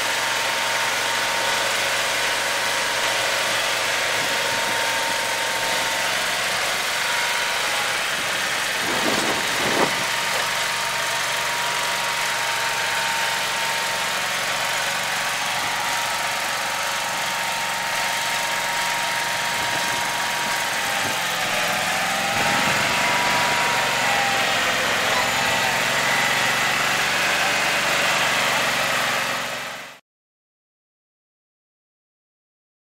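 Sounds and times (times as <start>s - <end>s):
mower engine running: 0.0s - 30.0s
constant whine: 0.6s - 29.8s.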